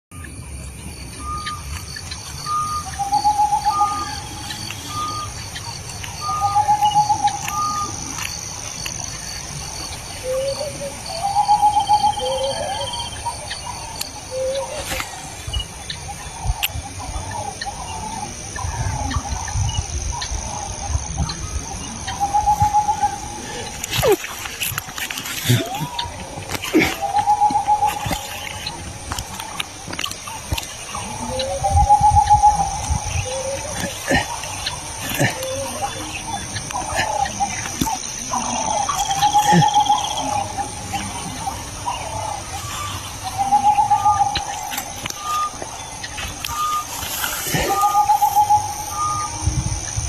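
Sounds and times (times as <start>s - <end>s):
birds calling: 0.2s - 50.0s
trilled bird calls: 0.2s - 50.0s.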